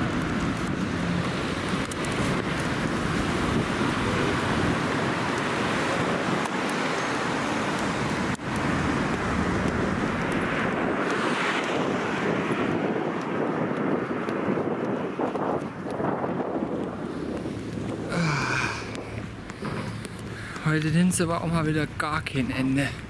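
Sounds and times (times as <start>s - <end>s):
wind on microphone: 0.0s - 22.0s
road traffic: 0.0s - 23.0s.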